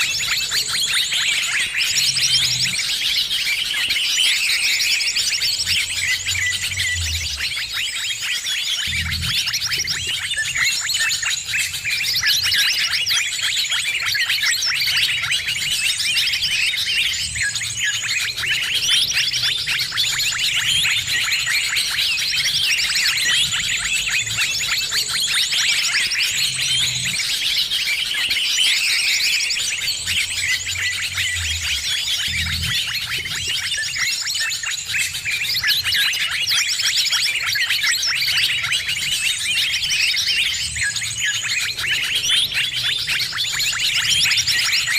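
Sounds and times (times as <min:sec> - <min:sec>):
small birds chirping and chattering: 0:00.0 - 0:44.9.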